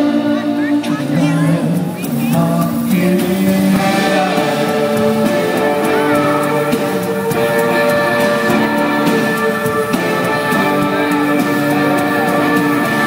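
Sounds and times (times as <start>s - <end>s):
live band music: 0.0s - 13.0s
man and woman singing: 0.0s - 13.0s.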